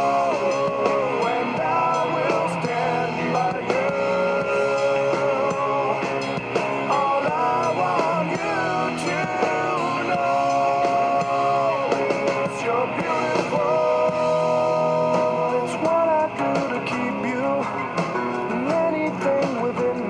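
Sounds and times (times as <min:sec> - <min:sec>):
rock song playing: 0:00.0 - 0:20.0.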